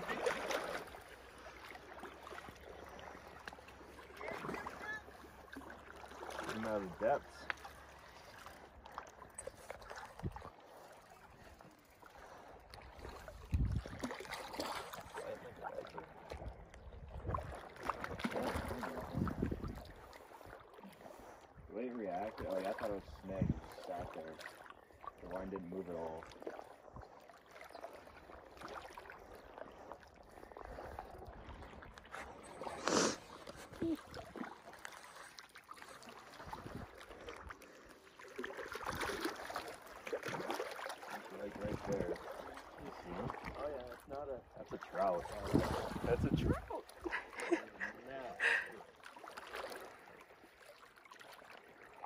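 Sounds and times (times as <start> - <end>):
water: 0.0 - 52.0
wind: 0.0 - 52.0.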